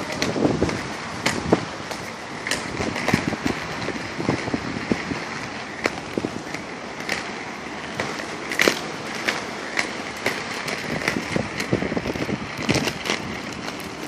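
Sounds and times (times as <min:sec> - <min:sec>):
city street noise: 0:00.0 - 0:14.0.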